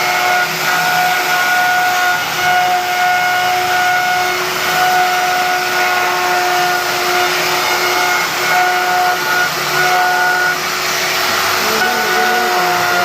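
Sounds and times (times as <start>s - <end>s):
power tool motor whine: 0.0s - 13.0s.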